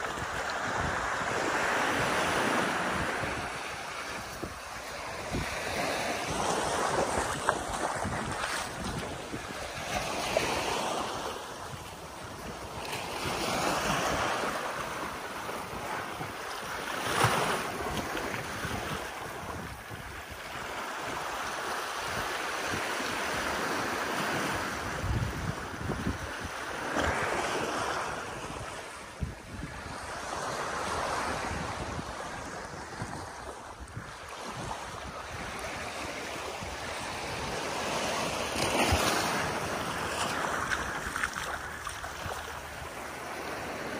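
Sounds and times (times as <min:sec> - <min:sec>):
waves washing on sandy beach: 0:00.0 - 0:43.9
wind buffeting microphone: 0:00.0 - 0:43.9.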